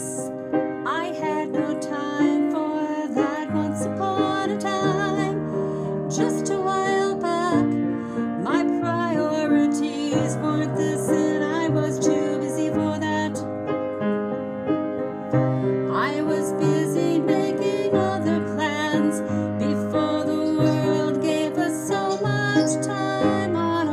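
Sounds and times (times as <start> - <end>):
woman singing slow song: 0.0 - 13.5, 15.8 - 23.9
piano chords: 0.0 - 23.9.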